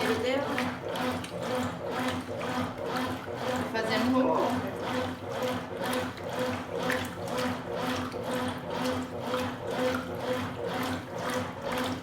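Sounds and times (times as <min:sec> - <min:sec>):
washing machine motor hum: 0:00.0 - 0:12.0
water sloshing: 0:00.0 - 0:12.0.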